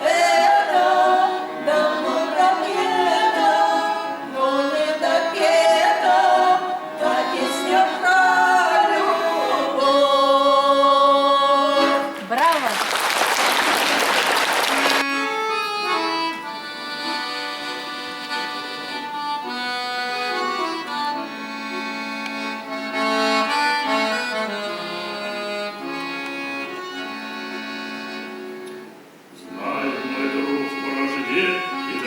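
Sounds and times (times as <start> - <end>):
accordion playing slow melody: 0.0 - 12.4, 14.6 - 32.0.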